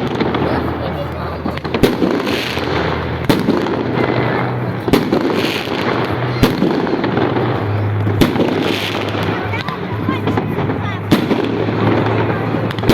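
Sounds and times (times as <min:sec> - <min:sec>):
fireworks crackling: 0:00.0 - 0:12.9.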